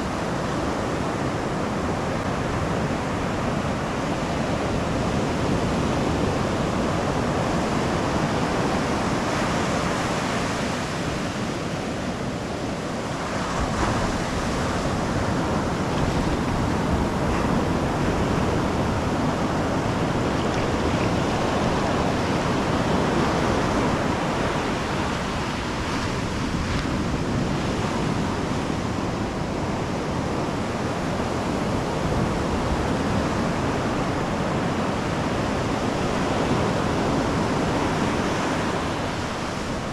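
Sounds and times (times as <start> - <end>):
surf waves breaking on beach: 0.0 - 39.9.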